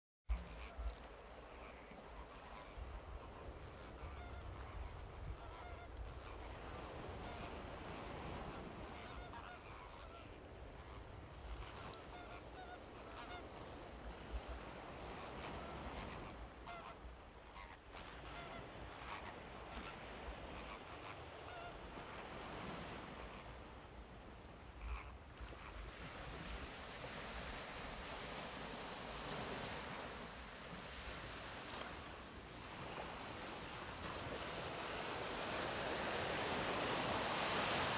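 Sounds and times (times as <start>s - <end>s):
flamingos honking: 0.3s - 13.9s, 14.6s - 23.7s, 24.6s - 37.9s.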